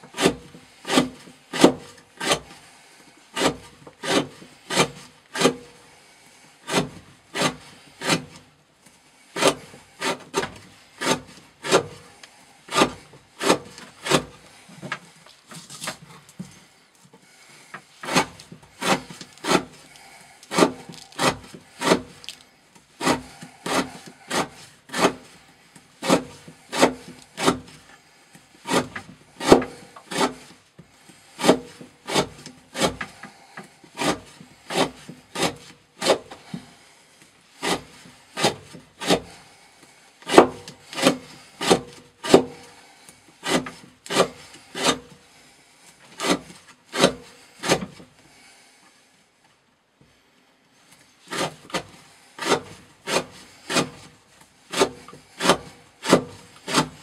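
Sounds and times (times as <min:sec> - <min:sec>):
knife scraping wood: 0:00.0 - 0:48.6, 0:50.8 - 0:57.0.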